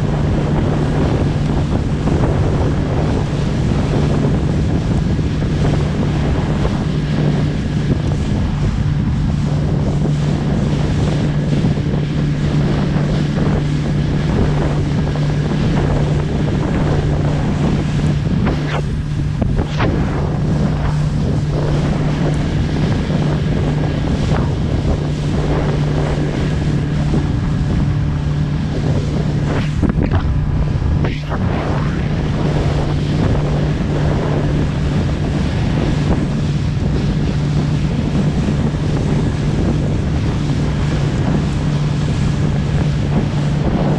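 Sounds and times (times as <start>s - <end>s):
boat engine running: 0.0s - 43.9s
rough sea rushing: 0.0s - 43.9s
wind noise on microphone: 0.0s - 43.9s.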